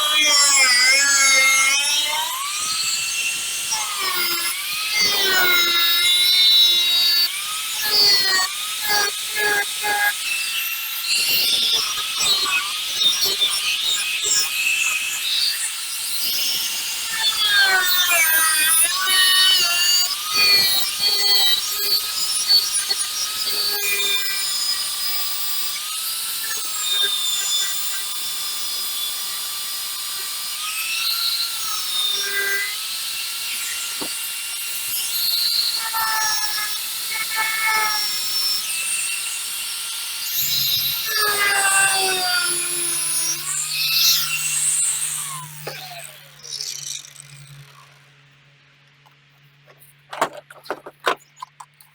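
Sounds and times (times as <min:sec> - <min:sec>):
rotary power tool whining: 0:00.0 - 0:51.9.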